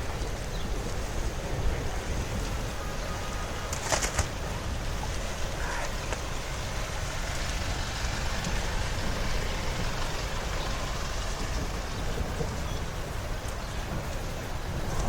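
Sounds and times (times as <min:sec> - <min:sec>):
passing road traffic: 0:00.0 - 0:15.0
rain: 0:00.0 - 0:15.0.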